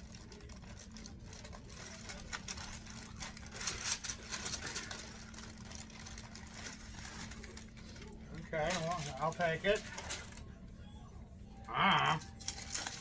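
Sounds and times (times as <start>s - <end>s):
parchment paper crinkling: 0.0s - 10.7s, 12.1s - 13.0s.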